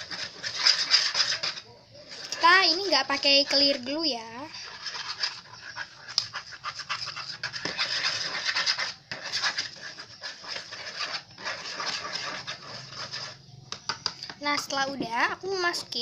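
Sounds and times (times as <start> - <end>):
stirrer scraping a container: 0.0 - 16.0.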